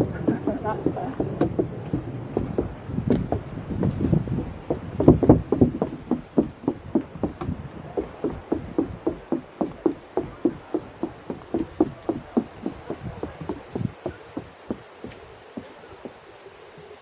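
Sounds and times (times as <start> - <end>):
quick footsteps on a trail: 0.0 - 16.4.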